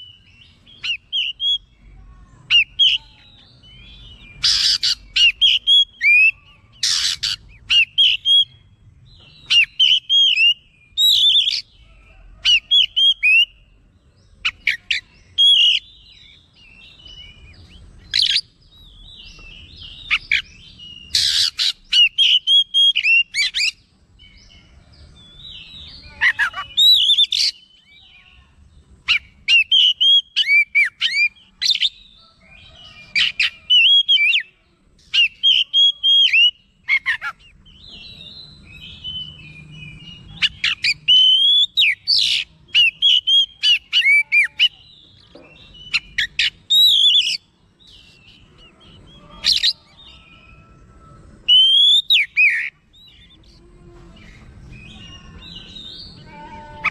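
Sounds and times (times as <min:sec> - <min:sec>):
bird singing whistles and chirps: 0:00.0 - 0:13.6, 0:14.4 - 0:24.6, 0:25.2 - 0:28.2, 0:29.0 - 0:53.6.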